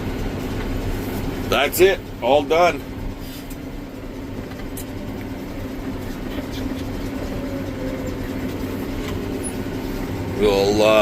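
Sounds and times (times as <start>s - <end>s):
tractor and baler drone: 0.0s - 11.0s.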